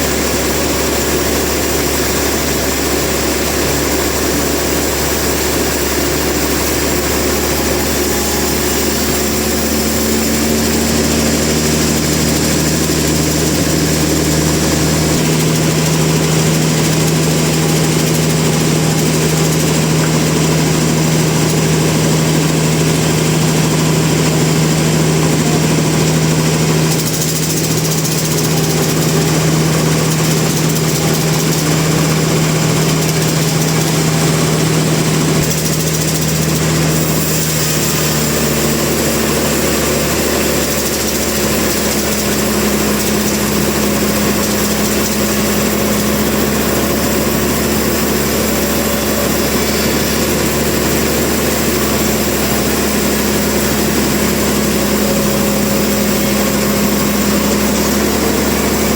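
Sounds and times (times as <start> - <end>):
heavy machinery droning: 0.0 - 58.9.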